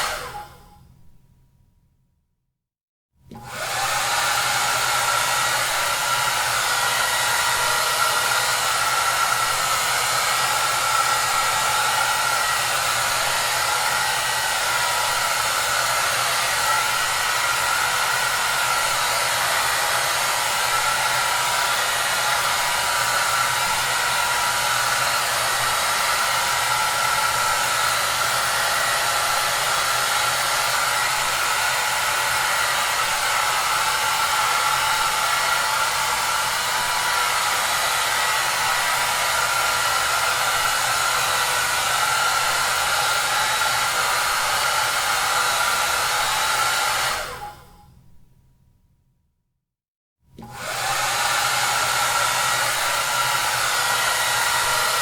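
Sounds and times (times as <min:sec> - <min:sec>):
hair dryer running: 0:00.0 - 0:00.7, 0:03.3 - 0:47.8, 0:50.4 - 0:55.0.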